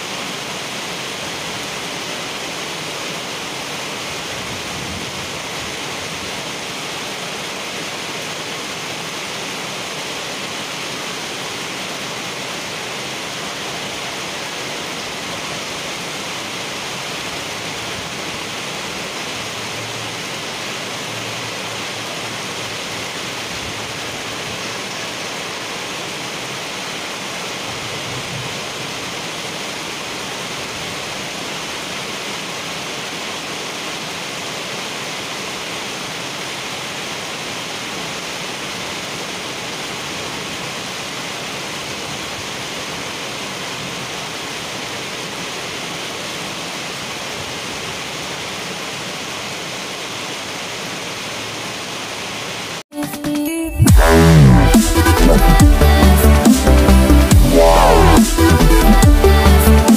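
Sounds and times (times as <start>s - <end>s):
heavy rain on asphalt: 0.0s - 52.9s.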